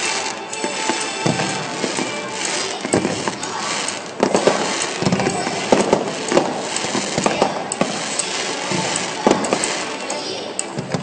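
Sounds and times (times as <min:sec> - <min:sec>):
crackle of firework stars: 0:00.0 - 0:11.0
firework bangs: 0:00.0 - 0:11.0.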